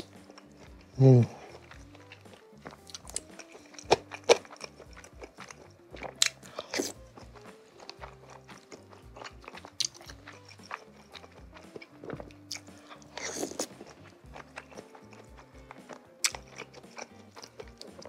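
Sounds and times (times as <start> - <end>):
quiet background music: 0.0 - 18.0
wet chewing mouth smacks: 0.0 - 18.0.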